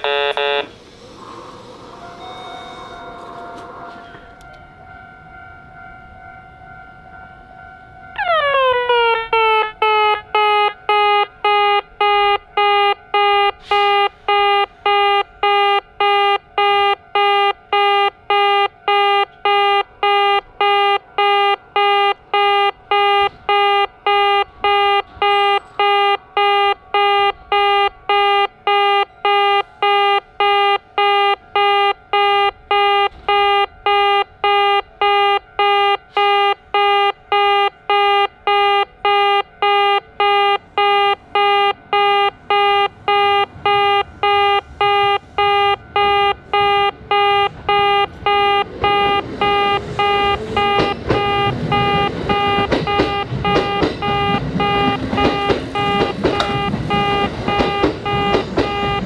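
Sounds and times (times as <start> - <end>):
level crossing warning buzzer: 0.0 - 5.4, 8.2 - 59.0.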